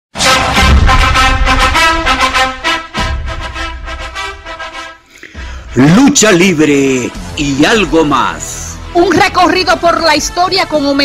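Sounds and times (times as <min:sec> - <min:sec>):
theme music with strong beat: 0:00.1 - 0:11.0.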